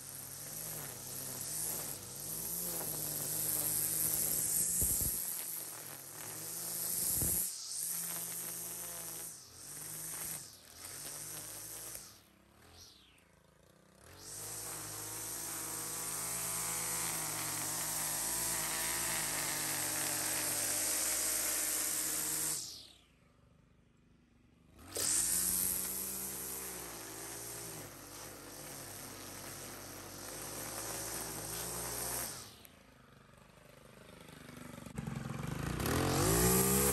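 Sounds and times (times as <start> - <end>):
string trimmer cutting grass: 0.0 - 23.6, 24.6 - 36.9.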